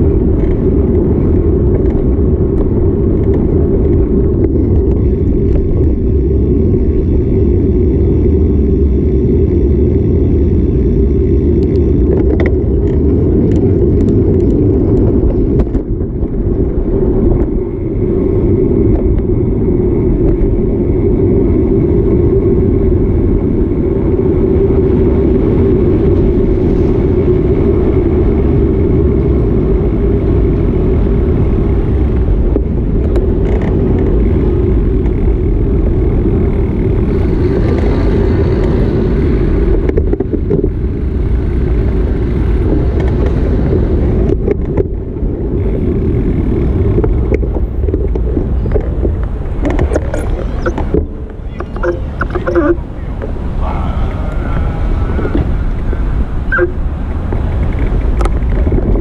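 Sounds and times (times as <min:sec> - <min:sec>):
city street traffic: 0:00.0 - 0:59.0
wind buffeting microphone: 0:00.0 - 0:59.0.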